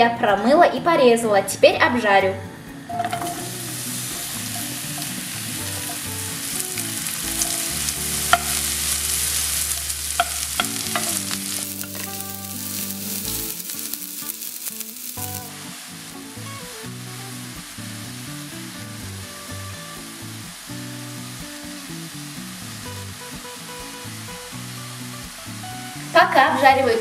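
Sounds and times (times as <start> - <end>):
mushrooms sizzling in frying pan: 2.8 - 27.0.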